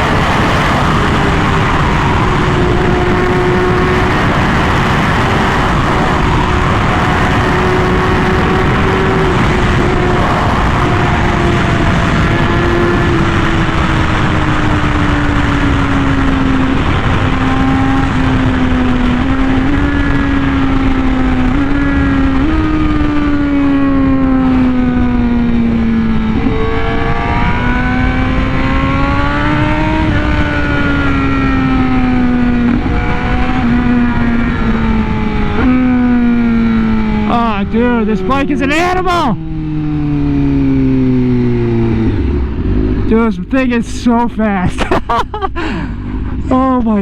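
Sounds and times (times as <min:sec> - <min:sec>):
motorcycle engine at high revs: 0:00.0 - 0:44.2
wind rush: 0:00.0 - 0:46.7.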